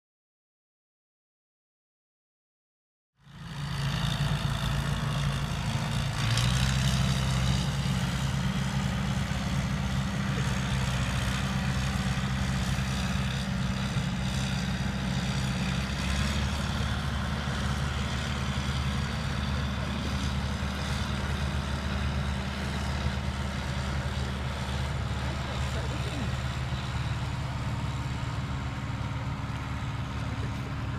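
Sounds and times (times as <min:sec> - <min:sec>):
diesel engine running: 0:03.2 - 0:30.9.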